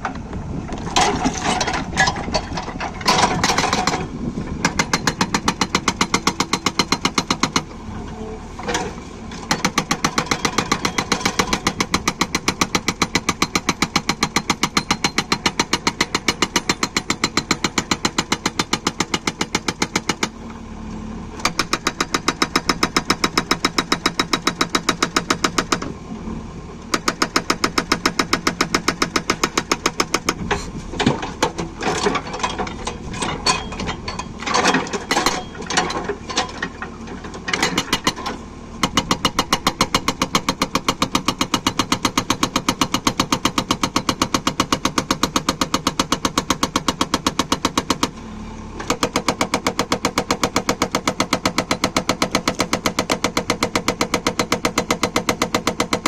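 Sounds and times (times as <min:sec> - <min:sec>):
diesel engine hum: 0:00.0 - 0:56.0
hydraulic breaker hammering: 0:00.9 - 0:07.7, 0:09.5 - 0:20.4, 0:21.4 - 0:25.9, 0:26.9 - 0:36.8, 0:37.5 - 0:48.2, 0:48.8 - 0:56.0.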